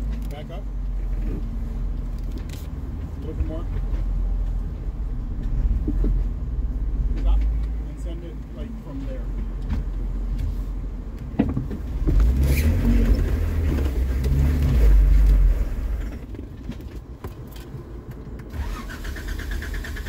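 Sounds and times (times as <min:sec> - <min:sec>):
car engine from inside cab: 0:00.0 - 0:20.0.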